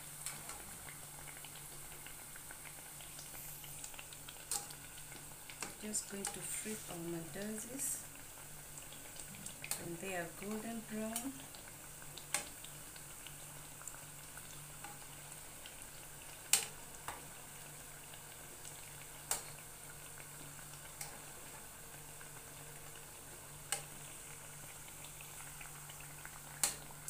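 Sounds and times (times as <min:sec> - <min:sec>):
dough deep-frying in oil: 0:00.0 - 0:27.0.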